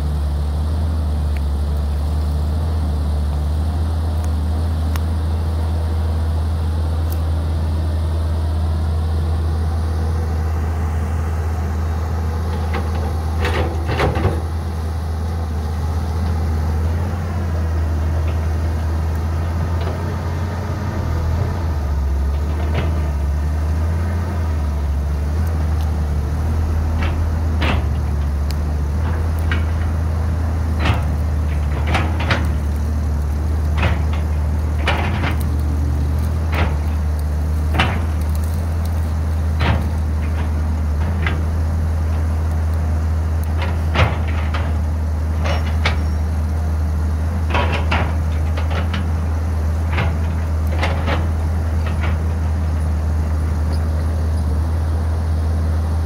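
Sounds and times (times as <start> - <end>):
excavator diesel engine running: 0.0 - 56.0
falling earth: 0.0 - 56.0.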